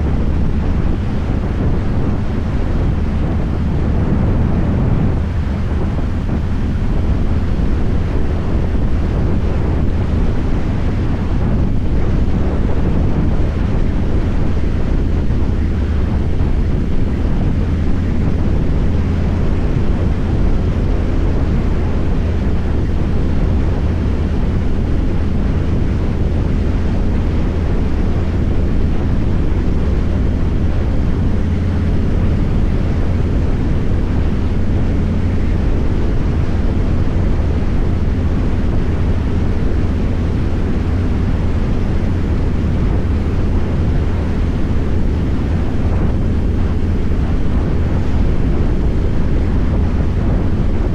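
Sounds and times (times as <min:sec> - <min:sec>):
motorcycle engine cruising: 0:00.0 - 0:50.9
wind noise on microphone: 0:00.0 - 0:50.9.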